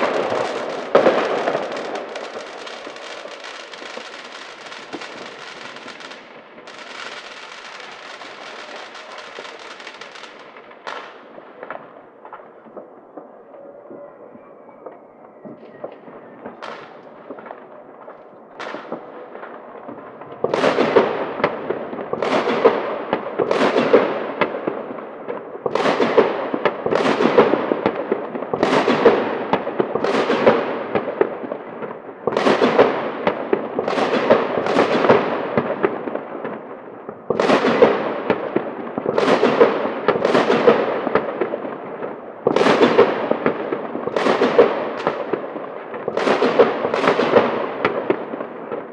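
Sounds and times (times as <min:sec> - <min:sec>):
loud firework bangs with crackle: 0:00.0 - 0:12.9, 0:15.4 - 0:48.9
small firework pops: 0:00.0 - 0:13.3, 0:14.8 - 0:48.9.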